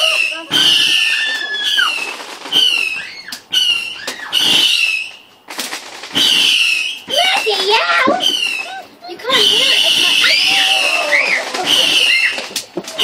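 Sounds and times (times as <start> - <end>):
firework cracks: 0.0 - 13.0
whistling fireworks: 0.0 - 13.0.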